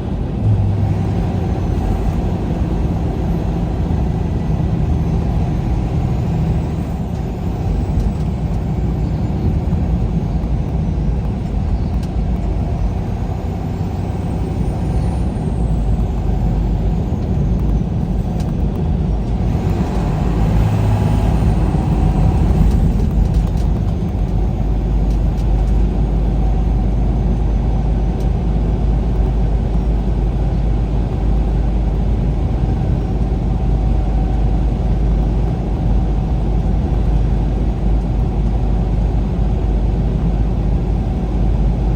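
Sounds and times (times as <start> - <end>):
vehicle road and engine noise: 0.0 - 41.9.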